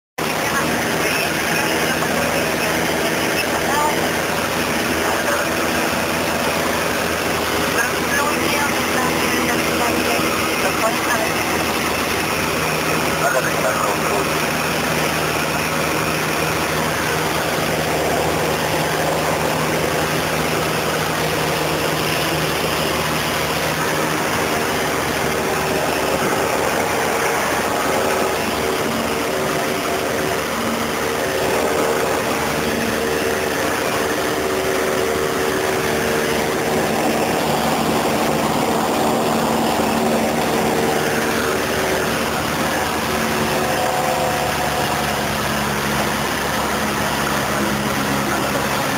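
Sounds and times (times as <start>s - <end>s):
airplane engine and propeller: 0.2s - 48.9s.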